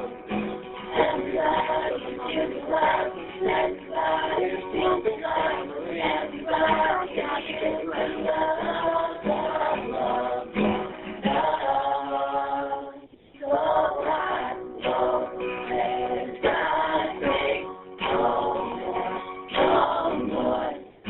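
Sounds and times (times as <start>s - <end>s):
acoustic guitar: 0.0s - 21.0s
group of voices singing: 0.0s - 21.0s.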